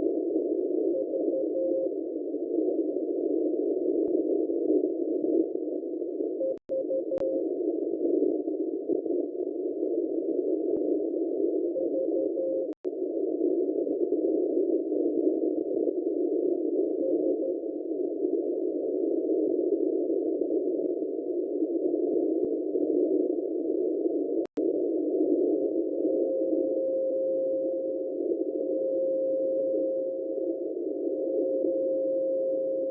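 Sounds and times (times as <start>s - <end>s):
faint morse code tone: 0.0s - 24.2s, 25.3s - 32.9s.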